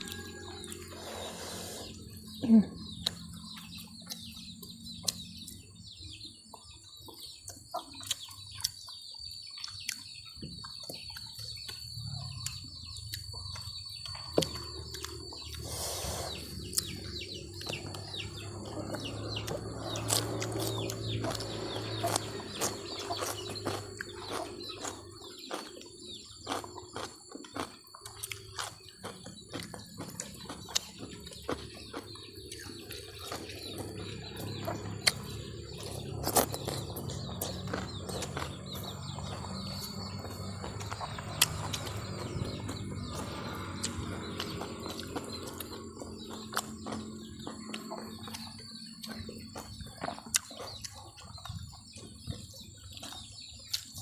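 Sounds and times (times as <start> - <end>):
birds chirping: 0.0 - 54.0
chewing and smacking: 0.0 - 54.0
chickens clucking: 0.0 - 54.0.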